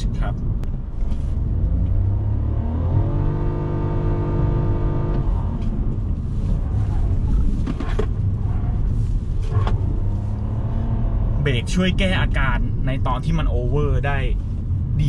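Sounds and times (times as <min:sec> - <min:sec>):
car engine revving: 0:00.0 - 0:15.0
road and drivetrain rumble: 0:00.0 - 0:15.0.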